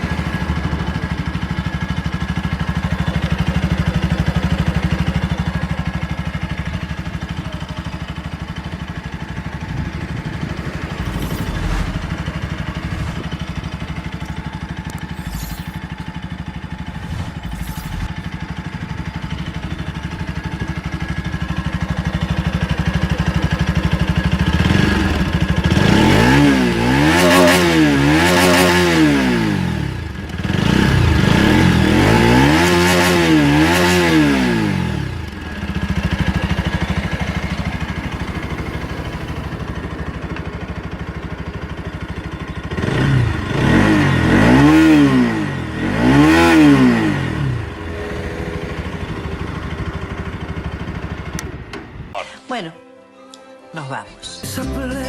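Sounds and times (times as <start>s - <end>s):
motorcycle engine idling and revving: 0.0s - 52.2s.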